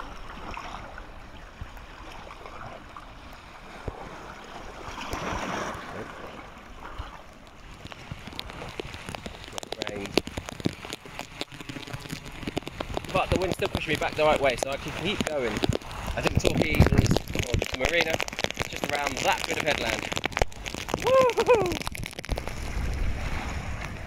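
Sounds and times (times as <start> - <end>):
water lapping and splashing: 0.0 - 24.0.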